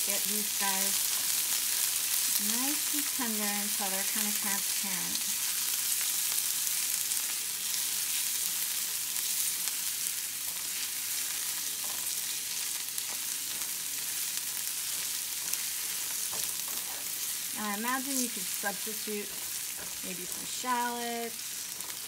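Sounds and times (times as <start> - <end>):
onion sizzling in a frying pan: 0.0 - 22.0.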